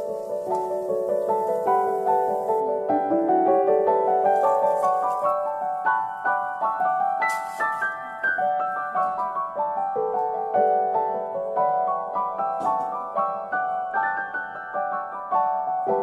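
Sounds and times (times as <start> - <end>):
piano melody of short notes: 0.0 - 16.0.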